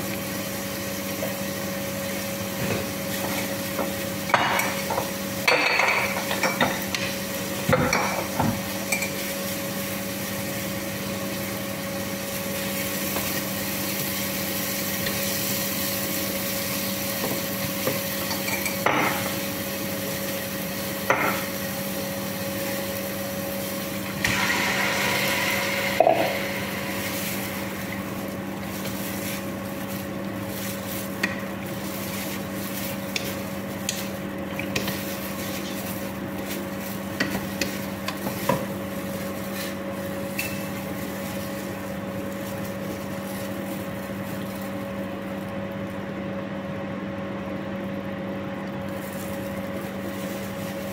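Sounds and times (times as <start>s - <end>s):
steady electrical hum: 0.0s - 50.9s.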